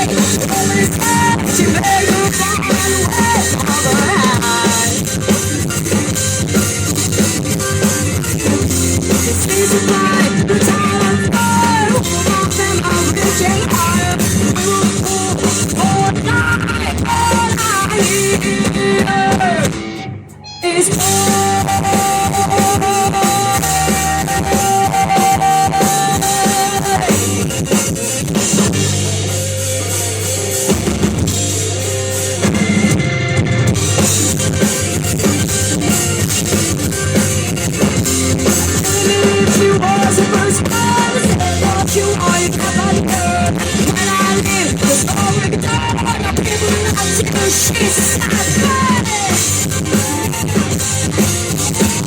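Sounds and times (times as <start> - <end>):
drum kit: 0.0 - 52.0
electric guitar: 0.0 - 52.0
live rock band playing: 0.0 - 52.0.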